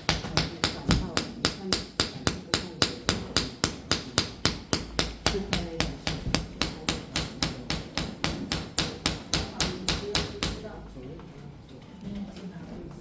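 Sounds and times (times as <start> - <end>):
hand slapping a back: 0.0 - 10.7.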